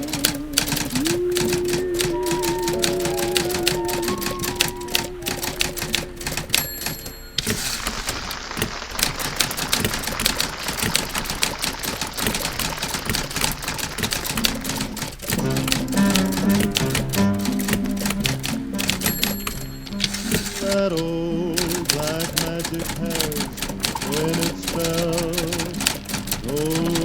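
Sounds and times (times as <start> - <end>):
old radio broadcast: 0.0 - 27.0
typewriter keys clacking: 0.0 - 27.0.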